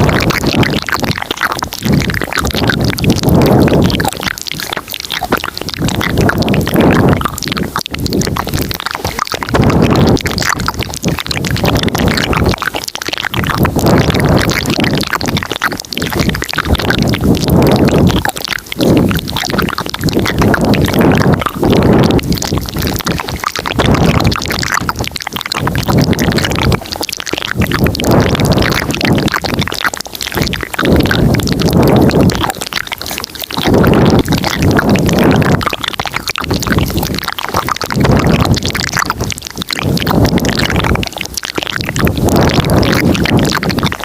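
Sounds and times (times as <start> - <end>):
mouth sounds close to microphone: 0.0 - 44.0.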